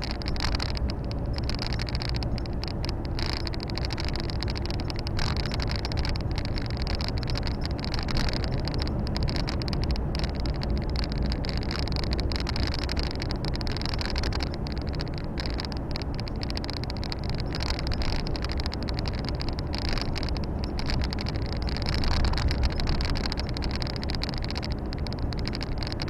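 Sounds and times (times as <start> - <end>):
road and tyre hiss: 0.0 - 26.0
truck diesel engine rumble: 0.0 - 26.0.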